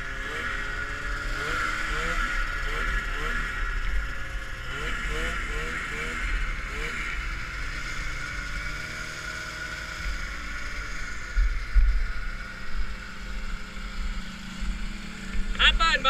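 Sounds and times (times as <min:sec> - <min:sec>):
snowmobile engines running: 0:00.0 - 0:16.0.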